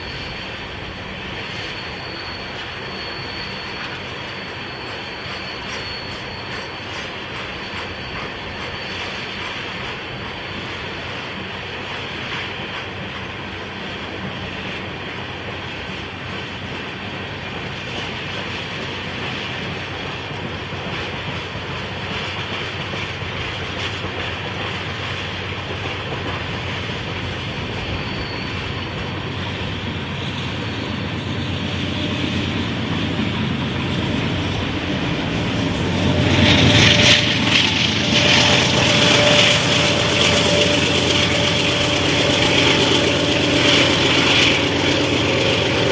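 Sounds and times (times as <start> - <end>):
freight train rolling past: 0.0 - 45.9
ringing tone of wheels on rail: 0.0 - 45.9.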